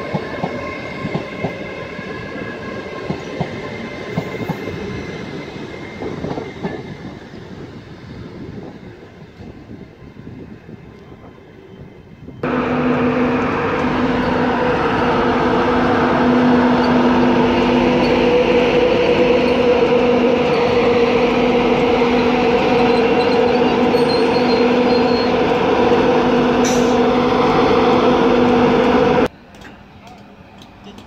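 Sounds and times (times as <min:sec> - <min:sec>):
electric locomotive humming: 0:00.0 - 0:31.0.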